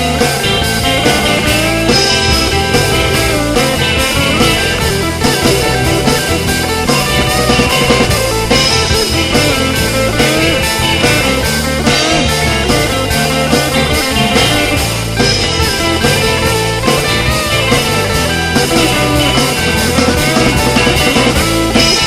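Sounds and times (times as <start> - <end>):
bass guitar: 0.0 - 22.0
drum kit: 0.0 - 22.0
lead guitar bending notes: 0.0 - 22.0.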